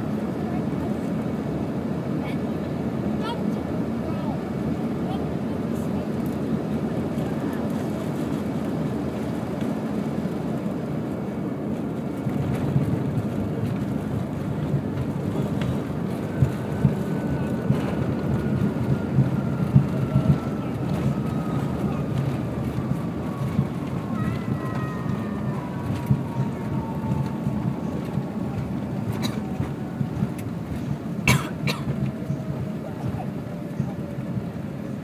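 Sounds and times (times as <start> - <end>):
low rumble of airframe: 0.0 - 35.0
jet engine whine falling: 3.5 - 35.0.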